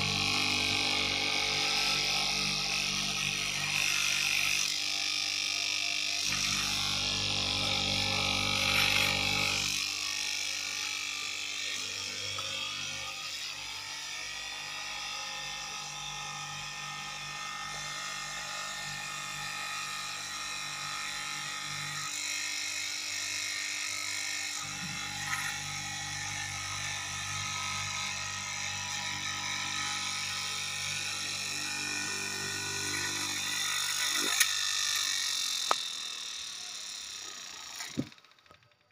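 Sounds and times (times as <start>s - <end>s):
cloth cutting machine running: 0.0s - 38.9s.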